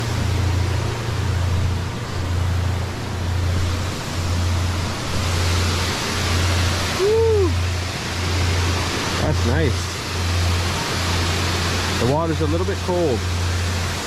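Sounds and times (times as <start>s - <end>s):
low pulsing hum: 0.0s - 14.0s
waterfall rushing: 0.0s - 14.0s.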